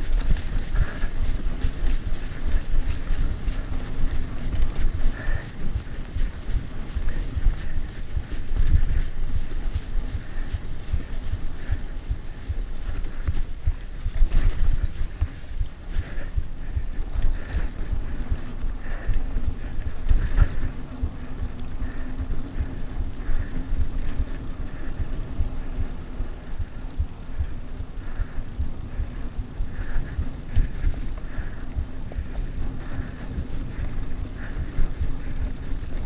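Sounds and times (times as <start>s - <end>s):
bike rattling over bumps: 0.0s - 36.0s
bike tyres rumbling on dirt: 0.0s - 36.0s
wind buffeting microphone: 0.0s - 36.0s.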